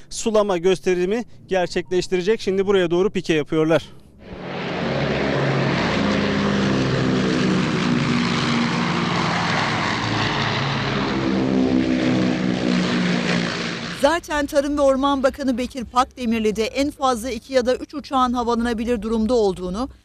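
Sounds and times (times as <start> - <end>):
propeller plane engines roaring: 3.9 - 20.0.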